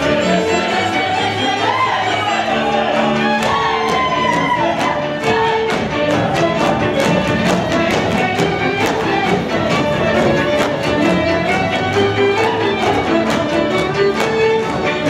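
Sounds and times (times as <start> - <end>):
bowed string melody: 0.0 - 15.0
folk band playing dance music: 0.0 - 15.0.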